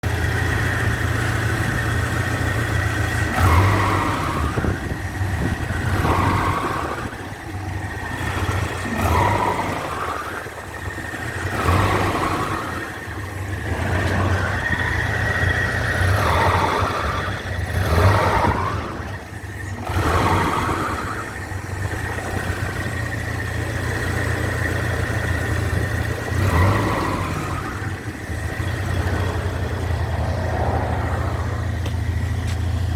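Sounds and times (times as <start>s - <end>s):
vehicle engine humming: 0.0s - 32.9s.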